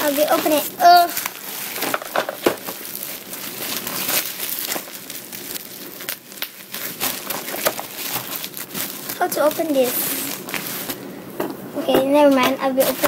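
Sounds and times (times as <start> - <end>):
bubble wrap crinkling: 0.0 - 11.1, 12.2 - 13.0.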